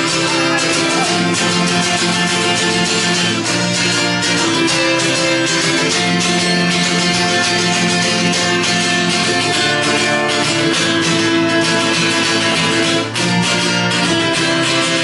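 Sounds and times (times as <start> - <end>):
acoustic guitar strummed fast: 0.0 - 15.0.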